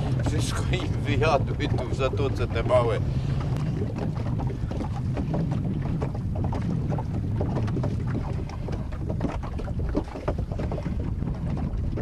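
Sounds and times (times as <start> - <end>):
low engine rumble: 0.0 - 12.0
waves slapping against hull: 0.0 - 12.0.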